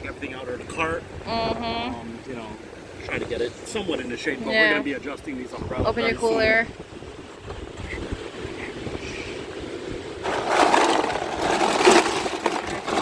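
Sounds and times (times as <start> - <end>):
wind buffeting microphone: 0.0 - 4.2, 4.8 - 13.0.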